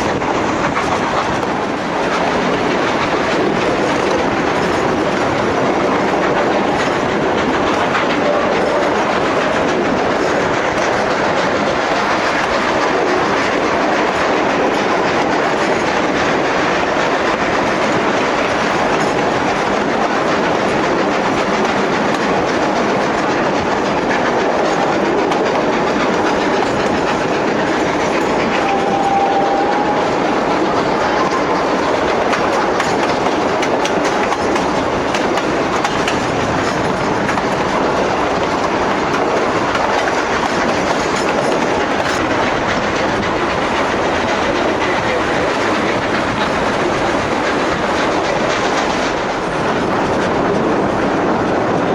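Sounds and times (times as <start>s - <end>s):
wheels clicking over rail joints: 0.0s - 51.0s
train rumbling and rattling: 0.0s - 51.9s.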